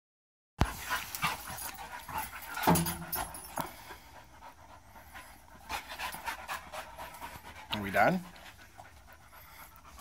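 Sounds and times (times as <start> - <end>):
dogs panting hard: 0.6 - 10.0.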